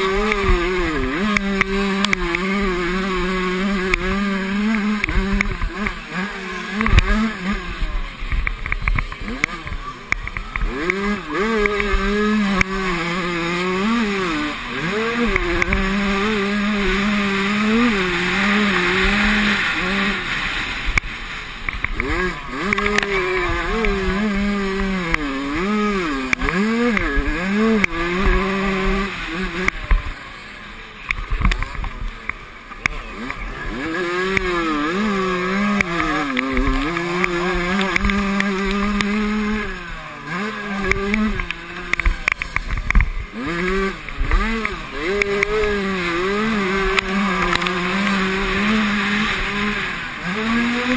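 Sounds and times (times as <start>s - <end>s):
motocross engines revving: 0.0s - 50.9s.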